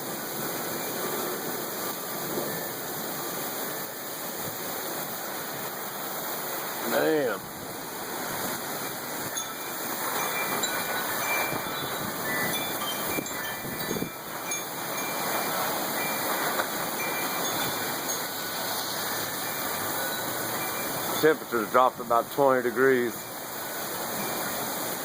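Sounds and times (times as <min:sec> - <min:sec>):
heavy rain: 0:00.0 - 0:25.0
storm wind: 0:00.0 - 0:25.0.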